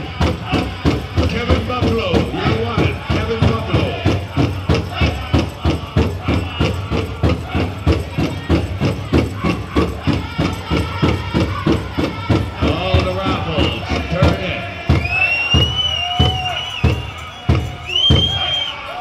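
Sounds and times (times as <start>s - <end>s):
drum beating fast: 0.0s - 18.8s
people singing: 0.0s - 19.0s.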